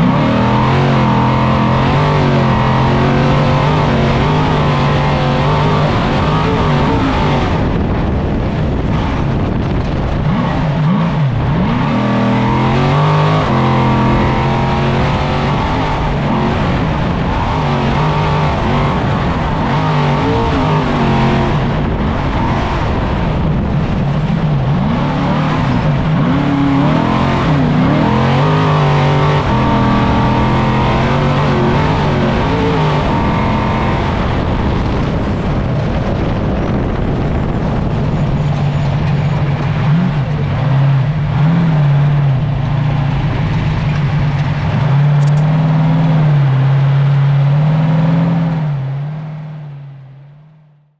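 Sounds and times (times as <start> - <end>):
wind rushing: 0.0 - 43.9
truck engine at racing speed: 0.0 - 50.9.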